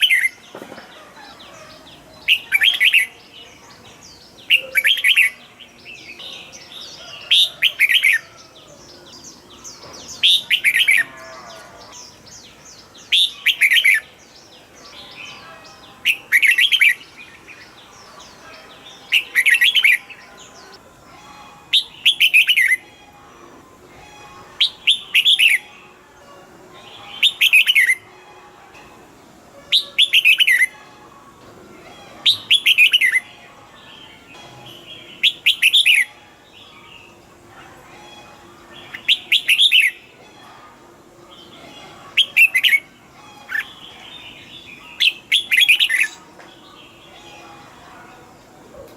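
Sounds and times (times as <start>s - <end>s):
faint background bird twittering: 0.0s - 48.9s.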